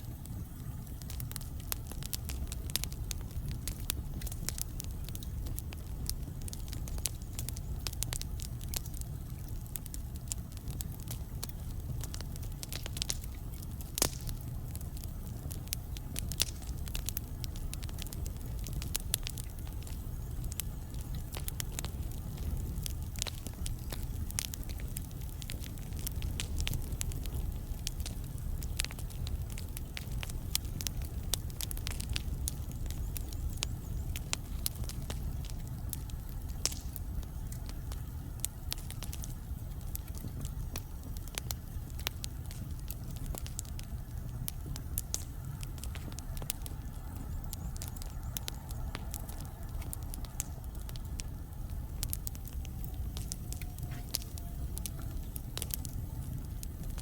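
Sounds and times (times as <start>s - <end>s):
logs crackling and popping: 0.0s - 57.0s
low rumble of flames: 0.0s - 57.0s.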